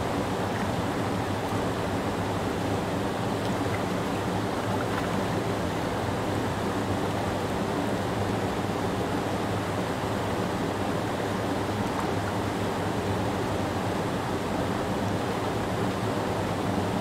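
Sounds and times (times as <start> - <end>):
creek water rushing over rocks: 0.1 - 17.0.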